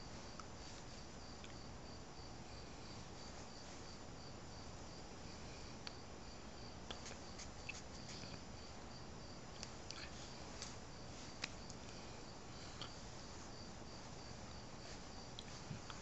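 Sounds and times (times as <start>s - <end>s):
room hiss: 0.0s - 16.0s.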